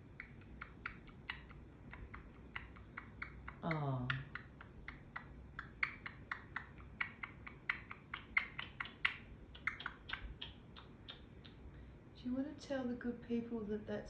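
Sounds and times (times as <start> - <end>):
parrot making sharp clicks: 0.0 - 11.6.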